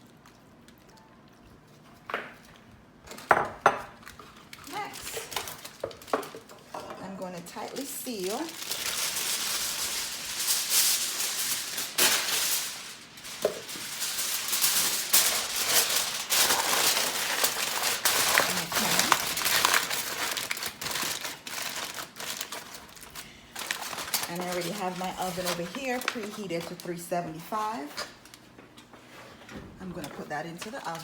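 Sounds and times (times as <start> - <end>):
aluminium foil crinkling: 3.9 - 28.9, 29.8 - 31.0.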